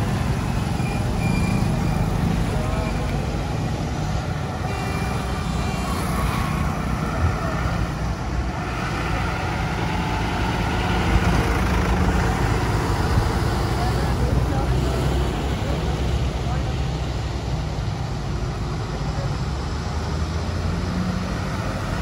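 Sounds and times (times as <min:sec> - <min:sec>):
trucks and vehicles driving past: 0:00.0 - 0:22.0.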